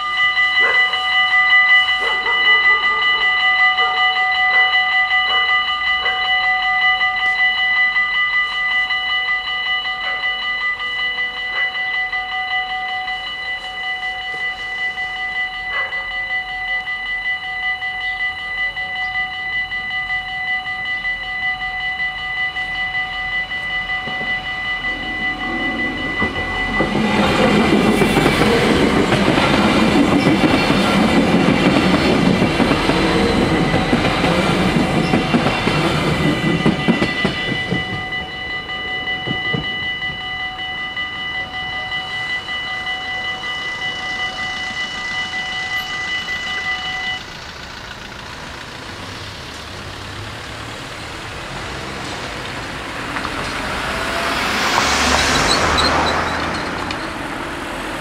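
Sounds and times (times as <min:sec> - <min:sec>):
diesel railcar passing: 0:00.0 - 0:58.0
level-crossing warning bells: 0:00.0 - 0:58.0.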